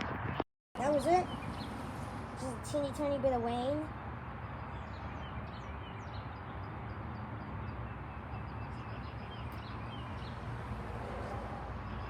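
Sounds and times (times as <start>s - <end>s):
birds chirping: 0.8s - 12.0s.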